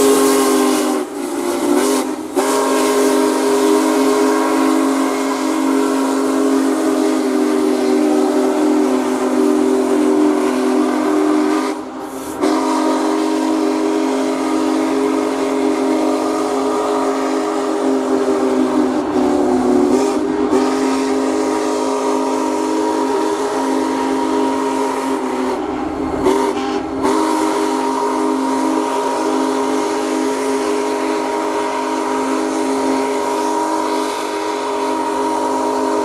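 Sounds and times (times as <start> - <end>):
steam locomotive whistle blasts: 0.0 - 36.0.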